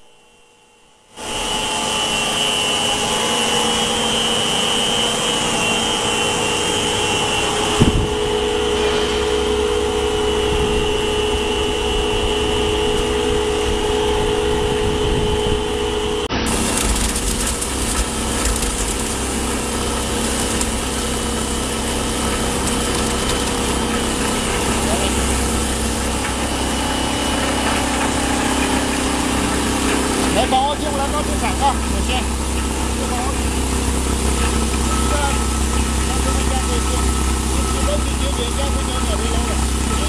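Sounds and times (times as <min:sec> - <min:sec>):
machine running with high whine: 0:00.0 - 0:40.0.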